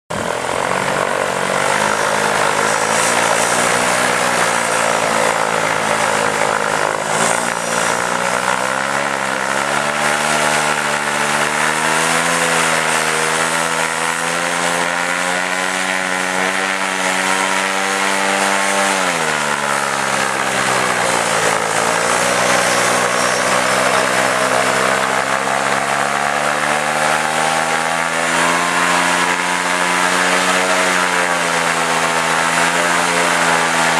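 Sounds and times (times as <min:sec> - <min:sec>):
paramotor engine and propeller running: 0:00.1 - 0:33.9.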